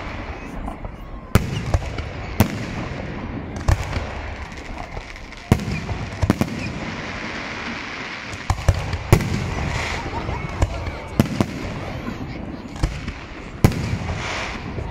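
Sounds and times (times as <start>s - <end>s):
firework bangs: 0.0s - 14.9s.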